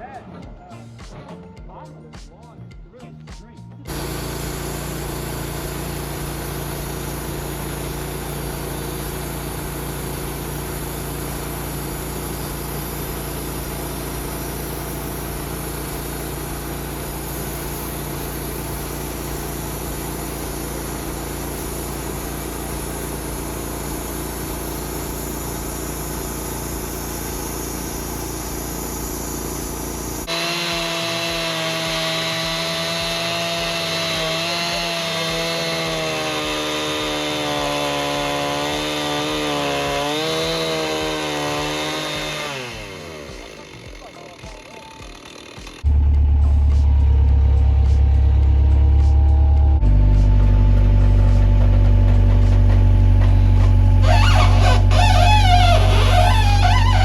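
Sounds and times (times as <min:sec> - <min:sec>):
sawmill cutting log: 0:03.9 - 0:45.9, 0:49.8 - 0:57.0.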